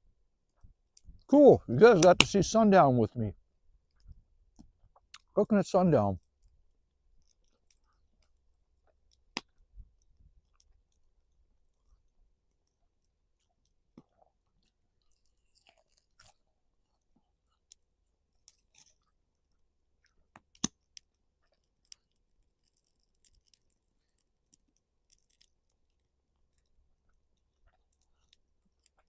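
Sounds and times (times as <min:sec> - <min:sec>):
faint chewing with crackles: 0:03.4 - 0:05.4, 0:06.2 - 0:29.0.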